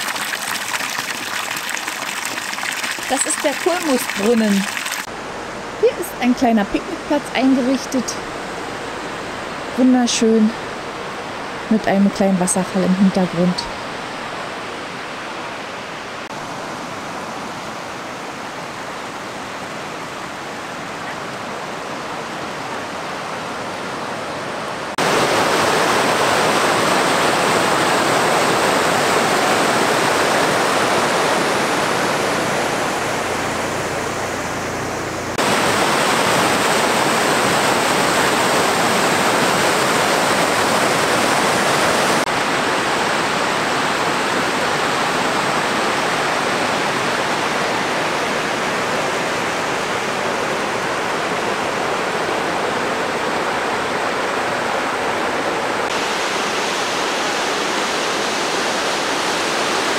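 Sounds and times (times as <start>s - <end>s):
river rushing over rocks: 0.0s - 5.6s, 13.8s - 59.9s.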